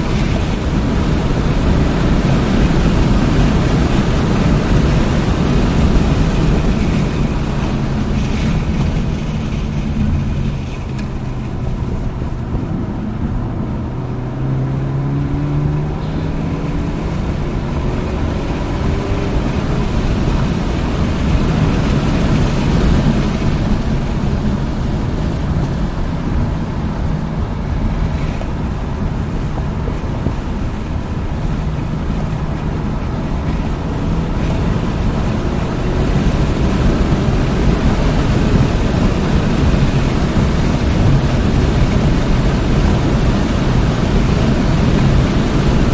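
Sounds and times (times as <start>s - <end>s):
car engine under hard driving: 0.0s - 45.9s
loud wind noise: 0.0s - 45.9s.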